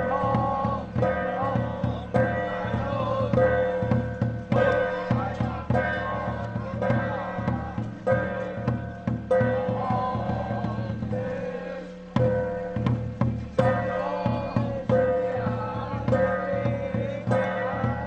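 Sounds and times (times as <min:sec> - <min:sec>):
percussion strikes: 0:00.0 - 0:18.0.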